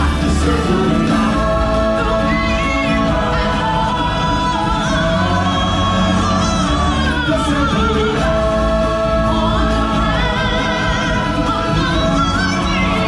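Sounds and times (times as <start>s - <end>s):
choir singing: 0.0s - 13.0s
loud instrumental backing: 0.0s - 13.0s.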